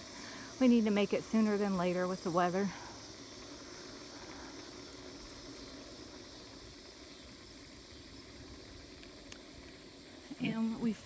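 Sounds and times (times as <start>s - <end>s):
bicycle riding rumble: 0.0s - 11.0s
crickets chirping: 0.0s - 11.0s.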